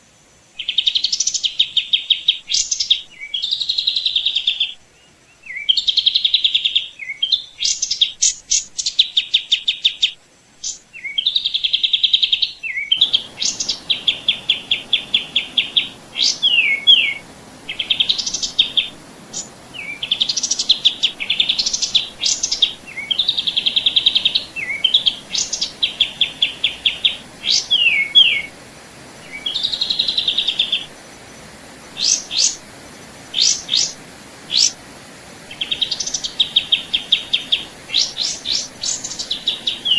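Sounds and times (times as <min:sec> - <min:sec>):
faint steady hiss: 0:00.0 - 0:39.9
songbird trilling: 0:00.6 - 0:34.8, 0:35.4 - 0:39.9.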